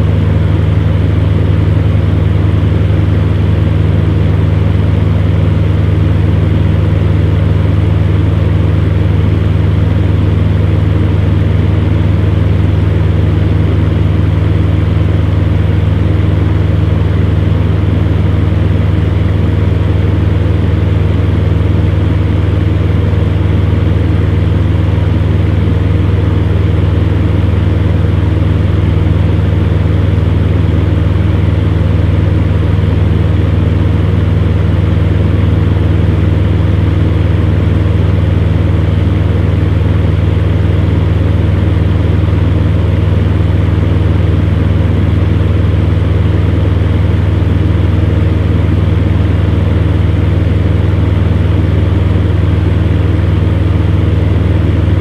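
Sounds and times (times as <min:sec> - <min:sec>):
electric fan running: 0:00.0 - 0:55.0.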